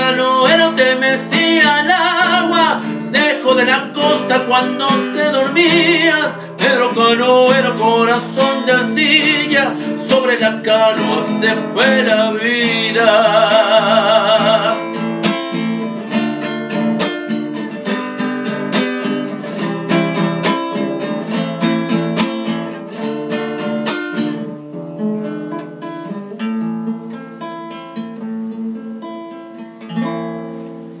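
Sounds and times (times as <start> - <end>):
classical guitar strumming chords: 0.0 - 31.0.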